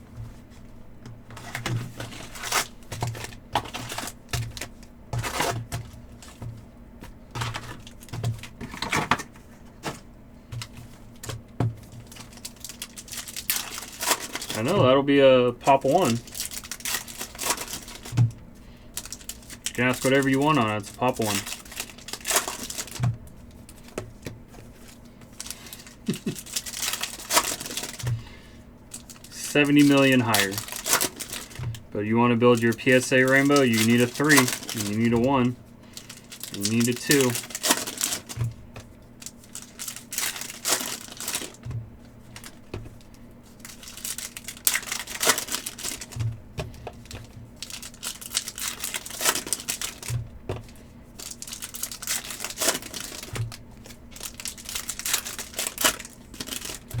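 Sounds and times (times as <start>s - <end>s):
faint steady hum: 0.0s - 57.0s
trading cards and wrappers rustling: 0.0s - 57.0s.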